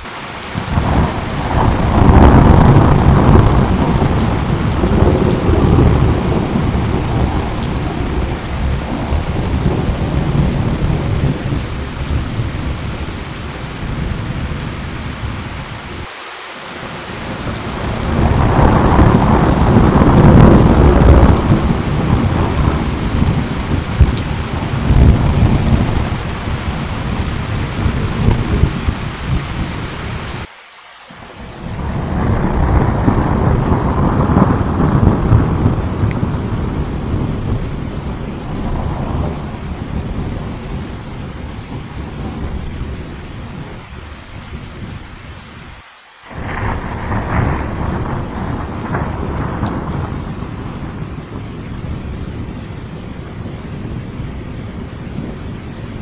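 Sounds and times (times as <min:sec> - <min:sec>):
thunder rumbling: 0:00.0 - 0:16.1, 0:16.8 - 0:30.5, 0:31.1 - 0:56.0
steady rain hissing: 0:00.0 - 0:56.0.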